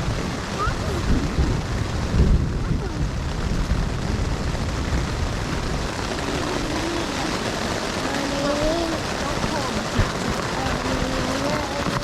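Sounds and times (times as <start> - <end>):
rain on a tent: 0.0 - 12.0
wind gusts buffeting microphone: 0.0 - 12.0.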